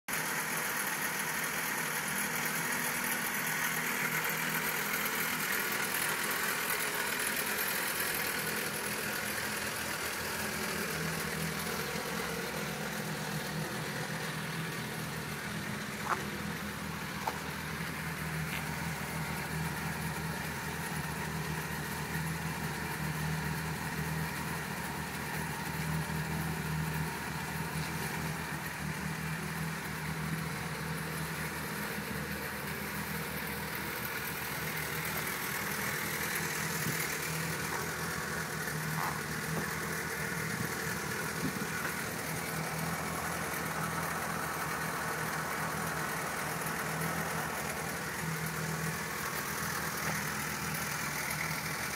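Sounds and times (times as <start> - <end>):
car engine idling: 0.1 - 51.9.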